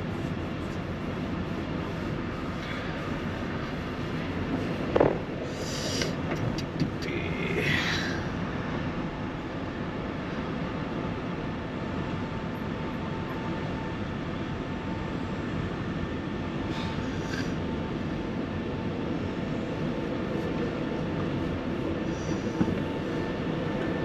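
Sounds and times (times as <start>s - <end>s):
van engine and tyre noise: 0.0s - 24.0s.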